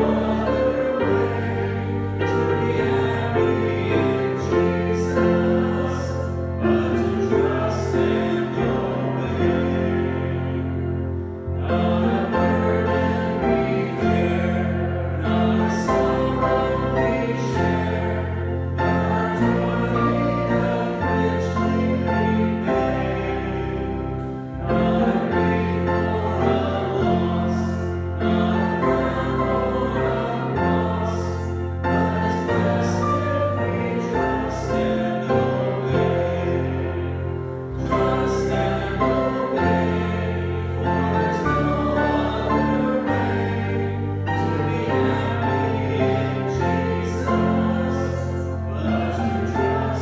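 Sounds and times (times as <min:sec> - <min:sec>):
keyboard accompaniment: 0:00.0 - 0:50.0
voices singing a hymn: 0:00.0 - 0:50.0.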